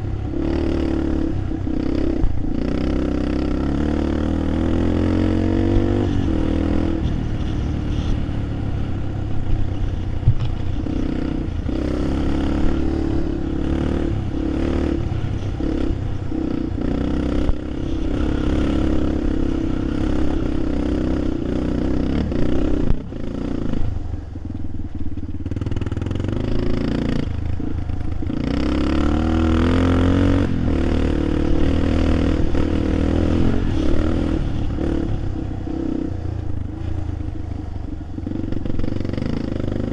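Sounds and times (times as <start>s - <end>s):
vehicle engine revving: 0.0s - 24.0s, 25.4s - 39.9s.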